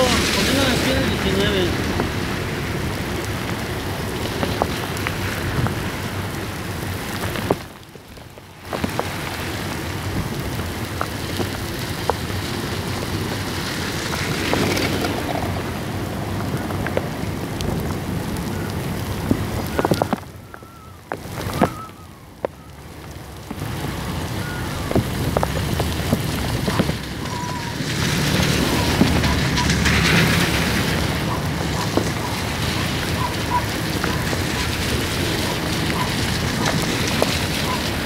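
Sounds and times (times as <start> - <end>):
gusty wind: 0.0 - 38.0
heavy rain on street: 0.0 - 38.0
ticks of raindrops: 0.0 - 38.0.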